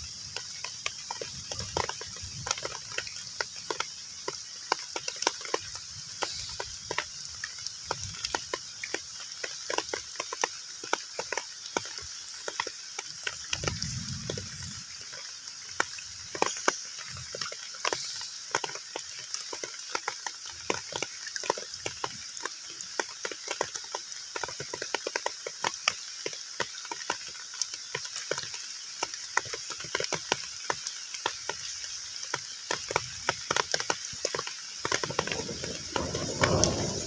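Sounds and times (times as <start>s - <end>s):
heavy rain on pond water: 0.0s - 37.0s.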